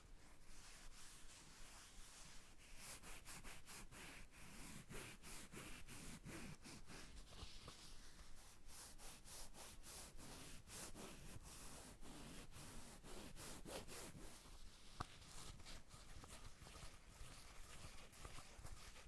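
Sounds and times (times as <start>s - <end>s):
hands rubbing and scratching object: 0.0s - 19.0s.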